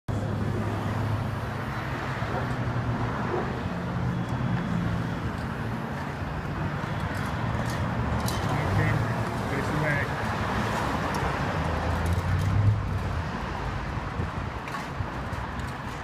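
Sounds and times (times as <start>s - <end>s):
street traffic: 0.1s - 16.0s.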